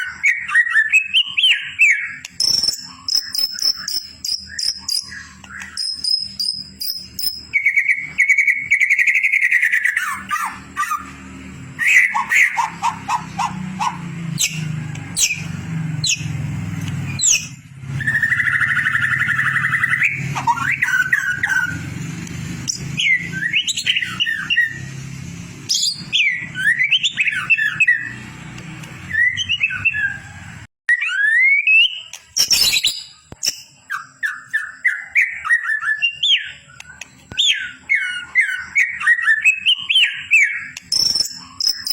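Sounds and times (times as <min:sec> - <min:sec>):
bird song with whistles and trills: 0:00.0 - 0:41.9.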